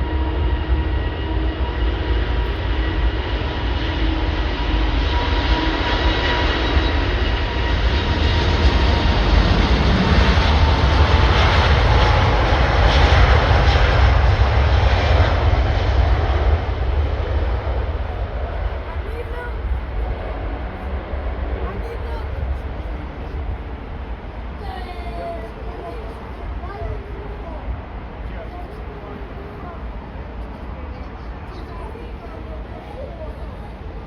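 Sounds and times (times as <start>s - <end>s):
jet engines passing: 0.0s - 34.0s.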